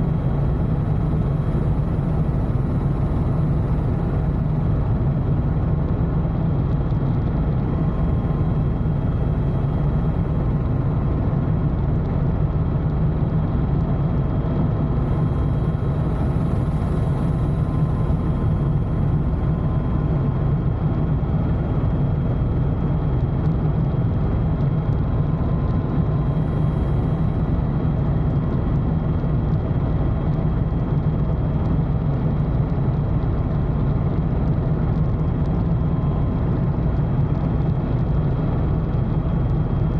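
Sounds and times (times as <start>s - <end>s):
faint steady whines: 0.0s - 39.9s
helicopter cabin drone: 0.0s - 39.9s.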